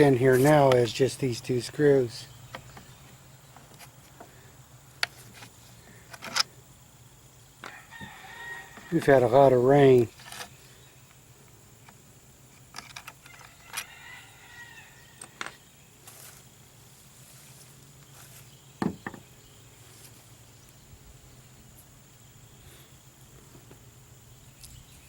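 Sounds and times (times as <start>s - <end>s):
faint steady hum: 0.0s - 25.0s
high insect drone: 0.0s - 25.0s.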